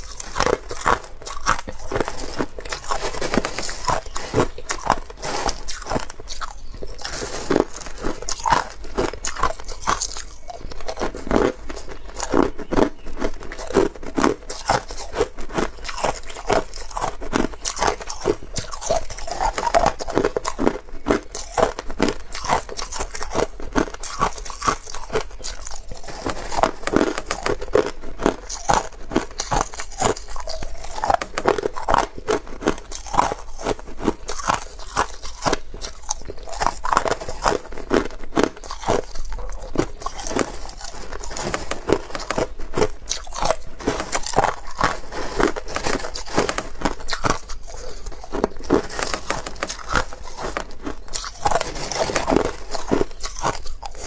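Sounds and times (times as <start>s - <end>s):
crushed ice chewed: 0.0s - 54.0s
fingers rustling through ice: 0.0s - 54.0s.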